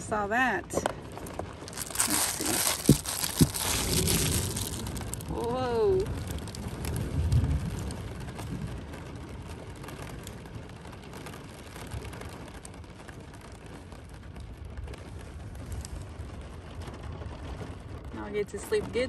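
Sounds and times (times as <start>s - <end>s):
rain on a car roof: 0.0s - 19.0s.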